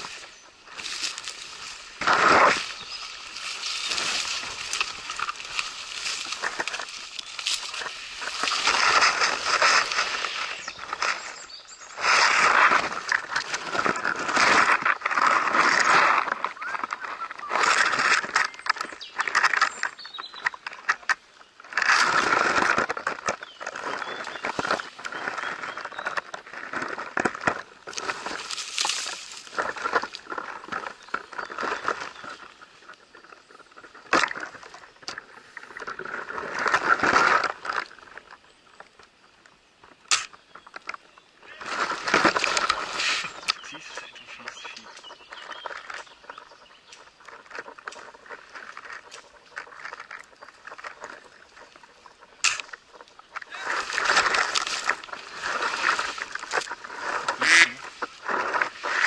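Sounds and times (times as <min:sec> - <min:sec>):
branches scraping and rustling: 0:00.0 - 0:59.0.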